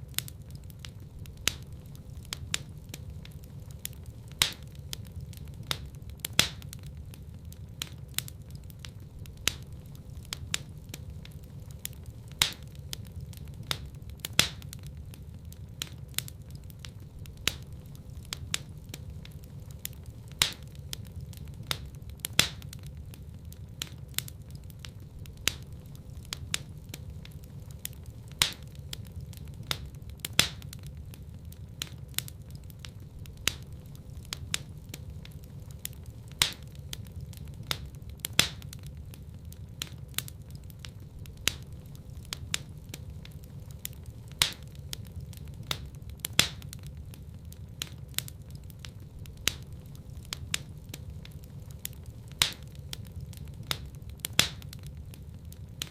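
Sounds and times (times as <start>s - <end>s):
fireplace fire crackling: 0.0s - 55.9s.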